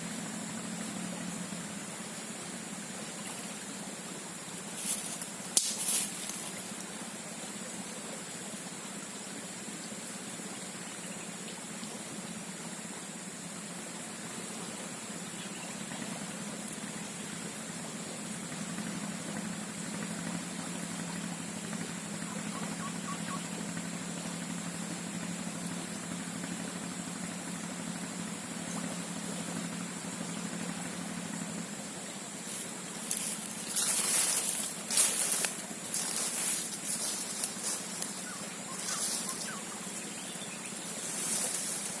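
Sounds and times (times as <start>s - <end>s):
high-pitched hiss: 0.0s - 18.7s, 19.6s - 42.0s
low steady hum: 0.0s - 42.0s.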